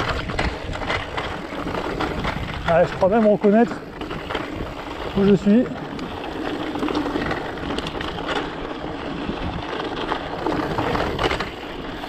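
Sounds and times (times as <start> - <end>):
bike rattling over stones: 0.0 - 12.0
bike tyres on dirt: 0.0 - 12.0.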